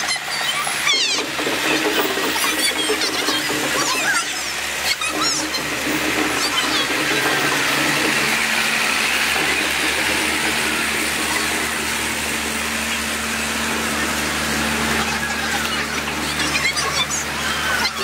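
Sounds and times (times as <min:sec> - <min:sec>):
fire truck engine rumbling: 0:00.0 - 0:18.0.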